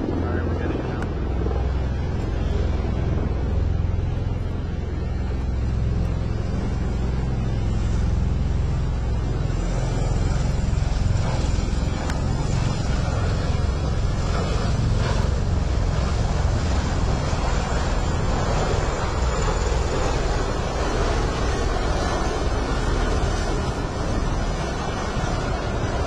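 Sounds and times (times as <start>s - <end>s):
aircraft engines rumbling: 0.0s - 26.0s.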